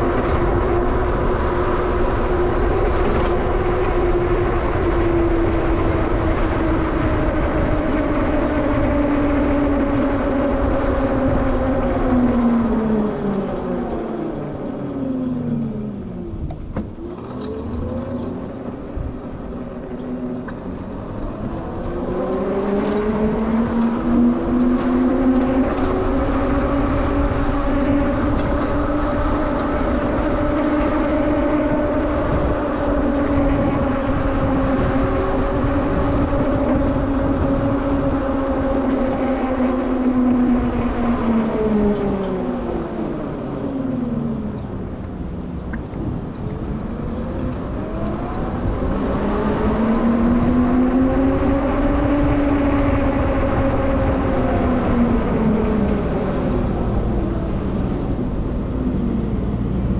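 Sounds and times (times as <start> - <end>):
road rumble: 0.0 - 59.9
vehicle drive whine: 0.0 - 59.9.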